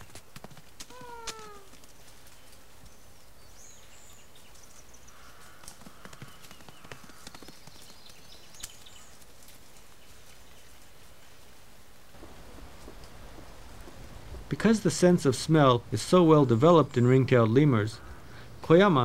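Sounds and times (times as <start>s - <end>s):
animals moving over dry leaves: 0.0s - 15.4s.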